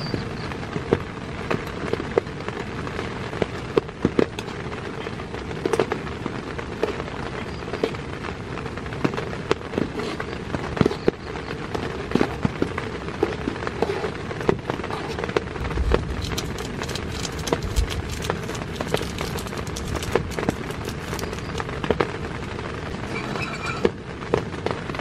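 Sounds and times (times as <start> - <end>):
heavy rain on a tent: 0.0 - 25.0.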